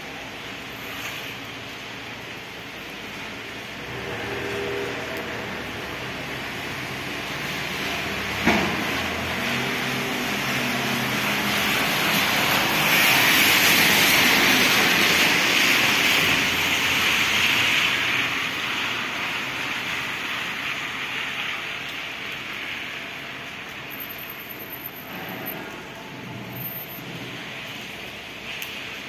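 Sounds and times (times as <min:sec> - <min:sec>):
tyre hiss on wet road: 0:00.0 - 0:29.0.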